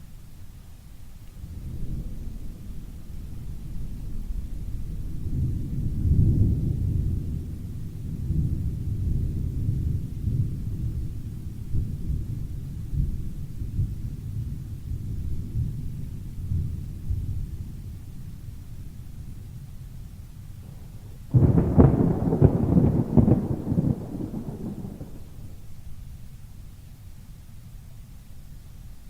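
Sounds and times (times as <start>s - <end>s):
muffled thunder rumbling: 1.4s - 26.7s.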